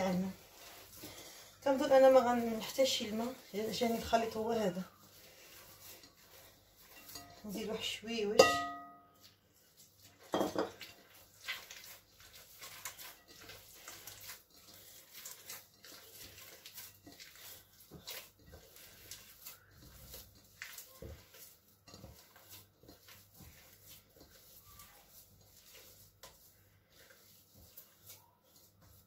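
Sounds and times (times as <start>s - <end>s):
dough squelching: 0.0s - 29.0s.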